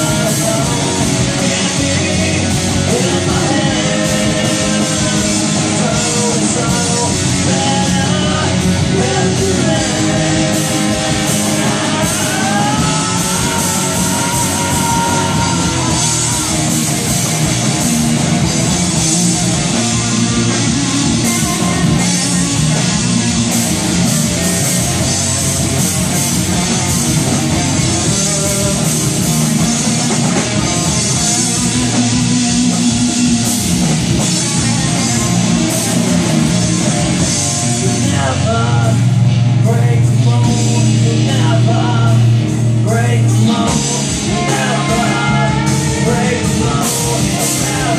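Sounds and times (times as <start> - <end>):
drum kit with cymbals: 0.0 - 47.9
loud electric guitar: 0.0 - 47.9.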